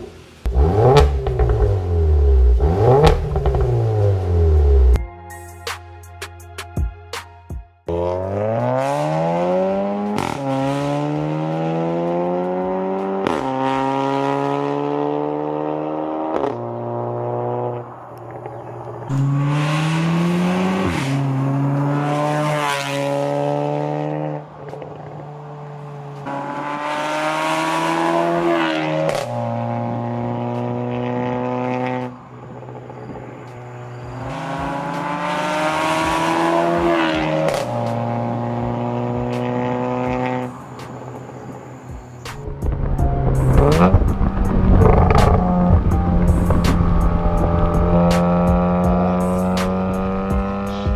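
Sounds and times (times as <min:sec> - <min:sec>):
car engine accelerating hard: 0:00.4 - 0:05.0, 0:07.9 - 0:50.9
car passing with loud rush: 0:07.9 - 0:50.9.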